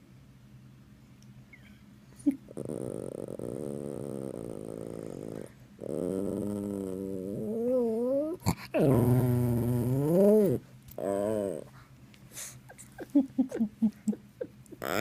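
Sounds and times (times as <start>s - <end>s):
dog moaning: 2.2s - 15.0s.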